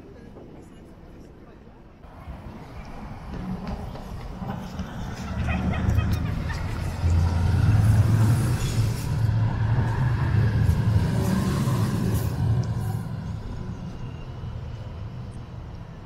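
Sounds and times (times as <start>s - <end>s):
tram rumbling past: 2.0s - 16.0s.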